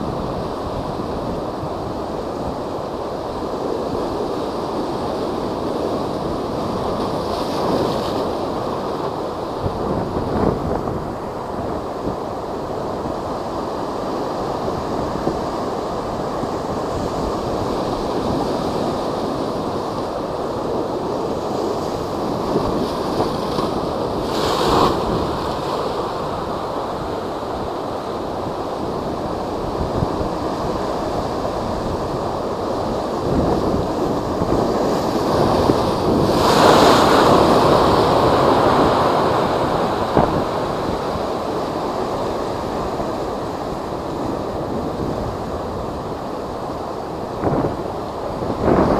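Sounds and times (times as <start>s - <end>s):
waves surging and breaking: 0.0s - 48.9s
wind buffeting microphone: 0.0s - 48.9s.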